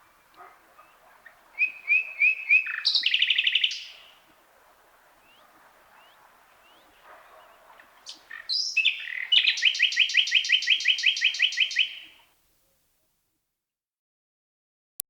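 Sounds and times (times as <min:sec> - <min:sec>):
nightingale song: 0:00.0 - 0:12.3.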